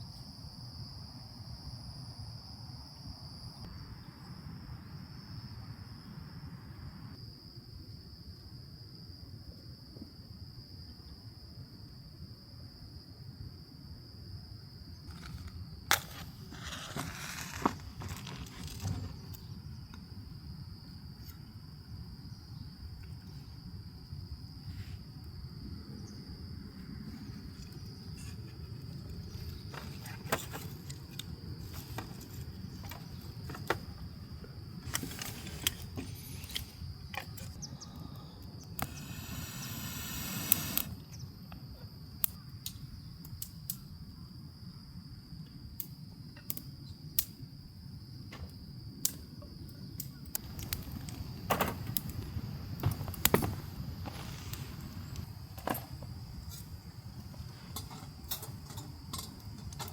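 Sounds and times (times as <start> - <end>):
high insect trill: 10.4 - 59.9.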